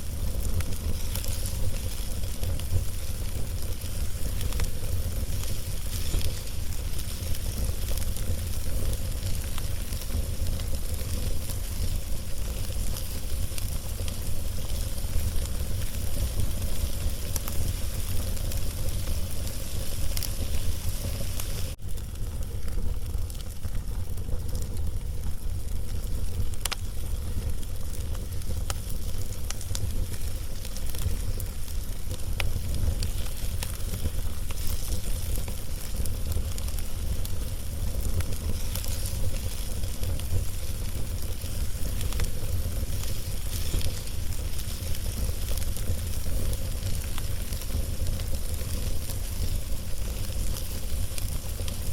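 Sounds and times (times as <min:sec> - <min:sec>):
fire crackles and pops: 0:00.0 - 0:51.9
fire low rumble: 0:00.0 - 0:51.9.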